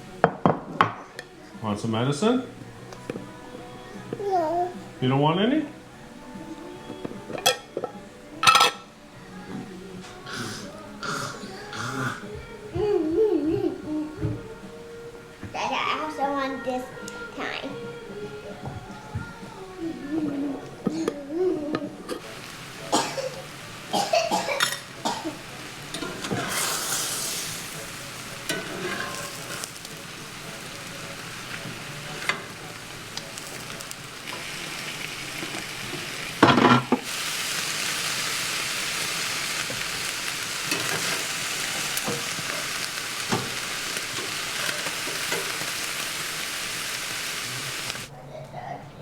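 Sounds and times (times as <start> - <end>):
food sizzling in a pan: 1.2 - 20.5, 21.6 - 48.1.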